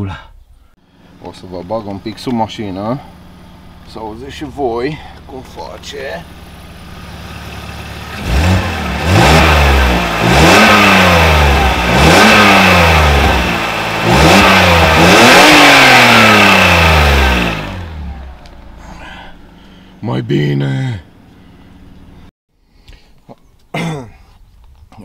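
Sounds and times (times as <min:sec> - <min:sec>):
car engine revving: 0:00.9 - 0:20.1, 0:20.7 - 0:22.3.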